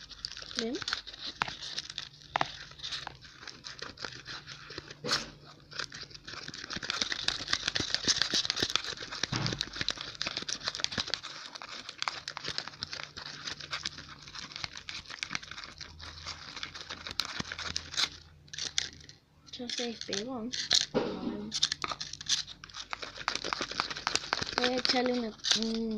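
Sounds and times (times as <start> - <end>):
slime stirred in a bowl: 0.0 - 25.9.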